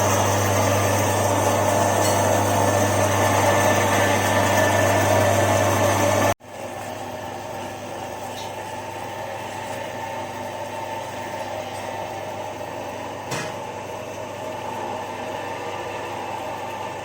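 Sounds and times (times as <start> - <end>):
processing machine humming: 0.0 - 17.0.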